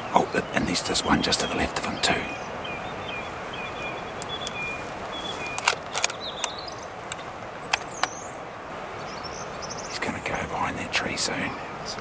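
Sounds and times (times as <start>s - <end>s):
birdsong chirps: 0.0s - 12.0s
river rushing: 0.0s - 12.0s.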